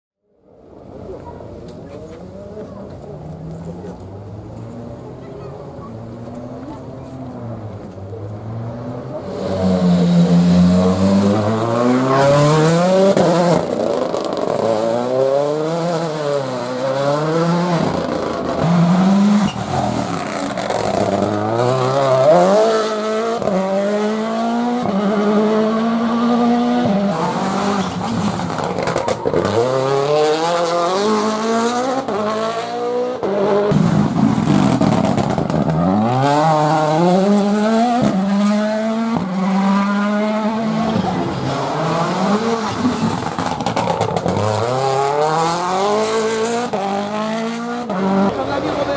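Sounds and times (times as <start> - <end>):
rally car engines revving: 0.7 - 48.9.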